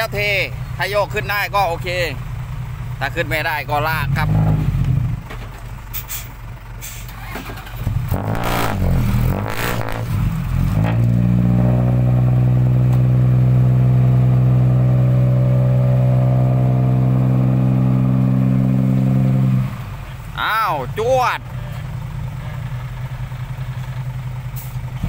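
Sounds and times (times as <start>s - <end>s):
diesel truck engine revving: 3.0s - 25.0s.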